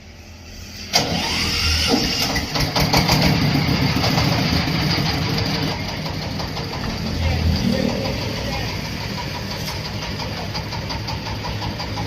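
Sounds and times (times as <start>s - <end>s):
diesel engine starting and running: 0.0s - 12.0s.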